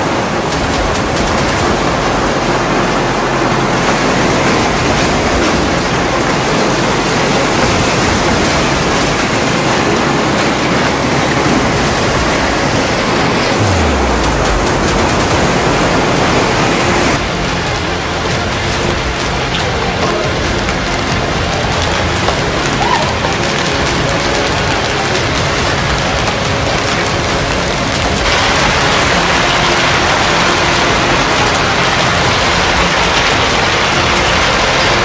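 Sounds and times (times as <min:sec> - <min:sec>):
hail and heavy rain on ground: 0:00.0 - 0:35.0.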